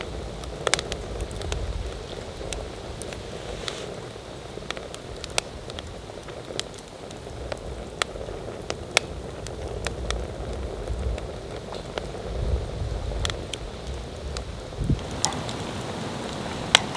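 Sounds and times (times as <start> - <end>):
campfire crackling and popping: 0.0 - 16.9.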